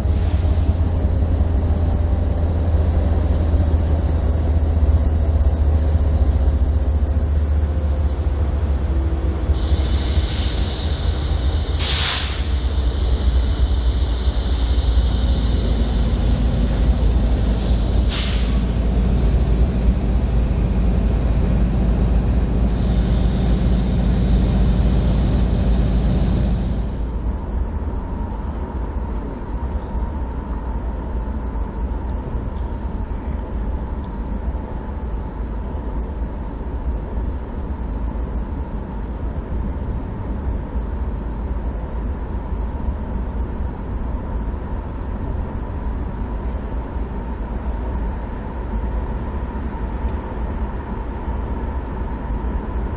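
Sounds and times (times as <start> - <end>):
diesel locomotive engine drone: 0.0 - 52.9
faint steady whine: 0.0 - 52.9
railcars rumbling by: 0.0 - 52.9.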